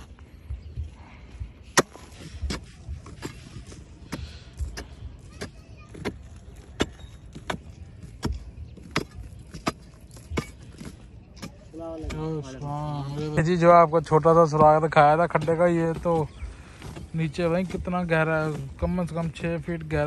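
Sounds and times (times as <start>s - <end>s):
digging tools striking earth: 1.6s - 20.0s.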